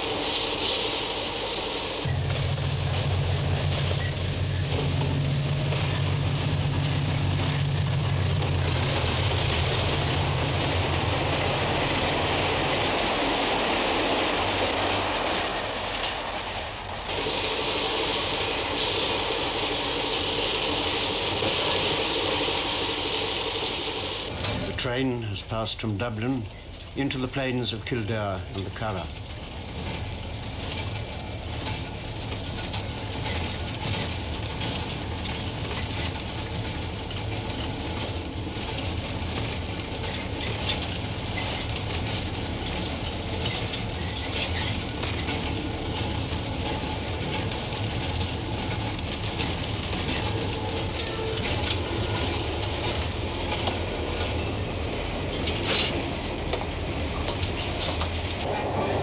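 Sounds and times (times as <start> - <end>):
train low rumble: 0.0 - 59.0
wheels clicking over rail joints: 0.0 - 59.0.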